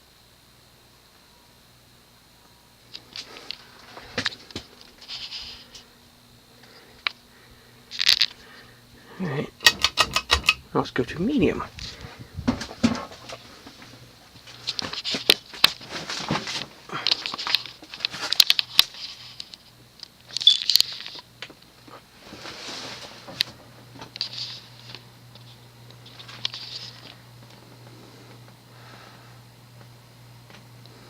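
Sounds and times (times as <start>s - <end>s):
ceiling fan motor humming: 0.0s - 31.0s.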